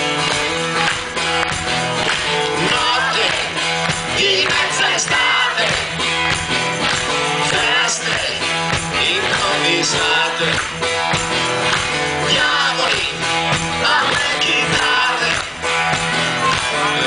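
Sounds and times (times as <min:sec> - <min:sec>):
live rock band playing: 0:00.0 - 0:17.0
people singing: 0:02.4 - 0:17.0.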